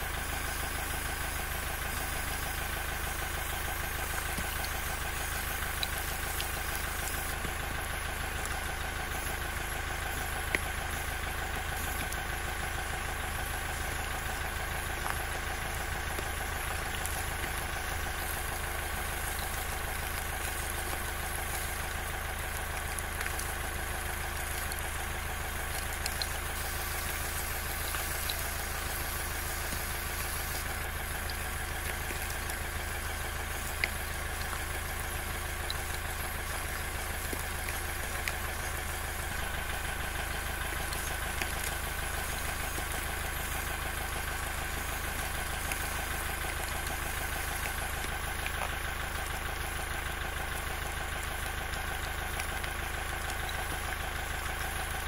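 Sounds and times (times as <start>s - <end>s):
small motor and gearing running: 0.0s - 55.0s.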